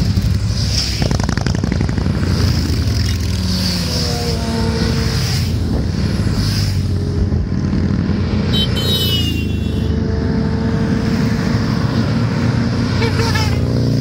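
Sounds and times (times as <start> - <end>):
motorcycle engines rumbling: 0.0 - 14.0.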